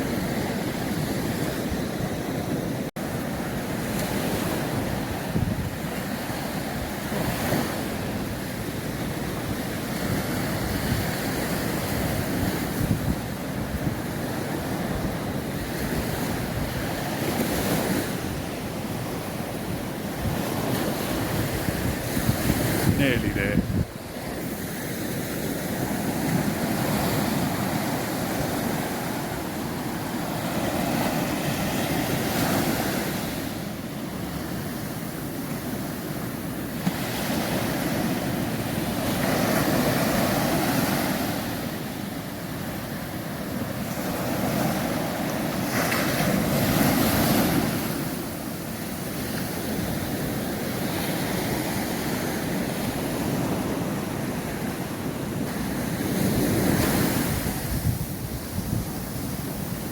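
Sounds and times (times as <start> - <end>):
wind buffeting microphone: 0.0 - 35.4, 36.3 - 59.9
waves breaking on a beach: 0.0 - 59.9.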